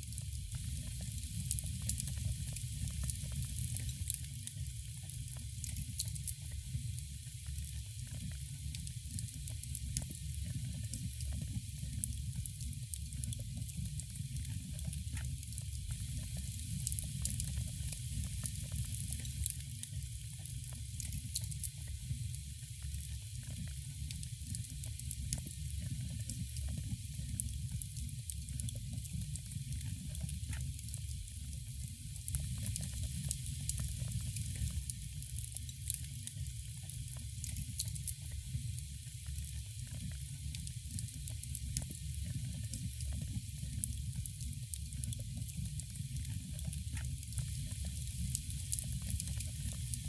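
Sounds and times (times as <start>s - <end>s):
fire crackling and popping: 0.1s - 50.0s.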